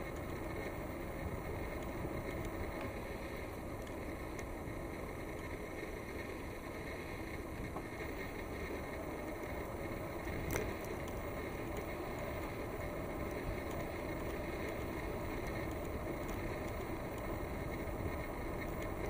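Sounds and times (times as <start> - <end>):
bicycle tyre noise: 0.0 - 19.0.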